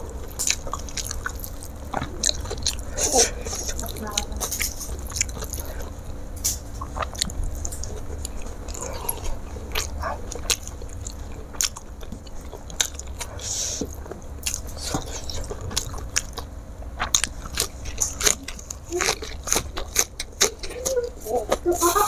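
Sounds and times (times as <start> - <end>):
wet chewing smacks: 0.2 - 6.0, 6.7 - 21.2.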